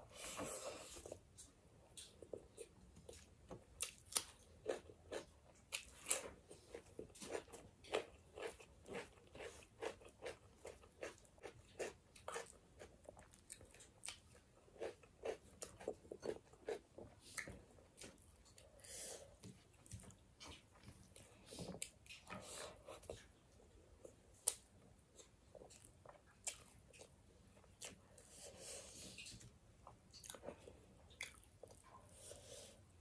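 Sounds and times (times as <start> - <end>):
person chewing crisp lettuce: 2.0 - 23.3, 24.0 - 32.4.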